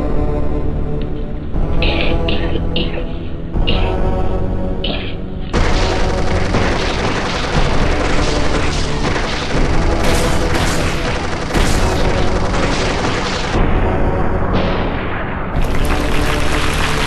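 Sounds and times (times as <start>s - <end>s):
music: 0.0s - 17.0s.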